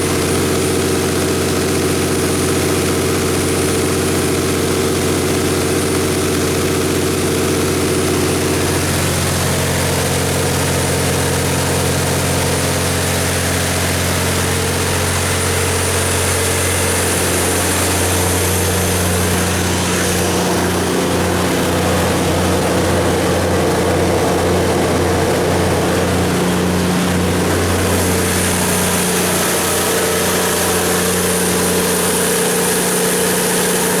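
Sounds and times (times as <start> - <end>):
diesel generator running: 0.0 - 34.0.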